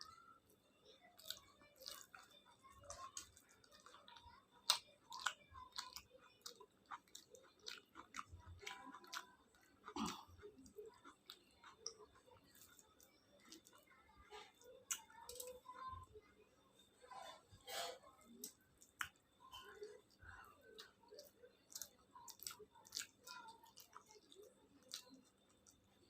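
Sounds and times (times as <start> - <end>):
chewing with wet mouth clicks: 1.2 - 13.9, 14.6 - 15.6, 18.3 - 25.9.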